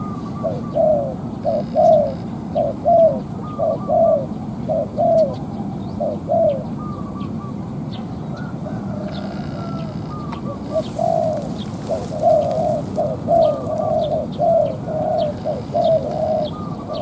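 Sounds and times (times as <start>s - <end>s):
dove cooing: 0.0s - 7.7s, 8.3s - 17.0s.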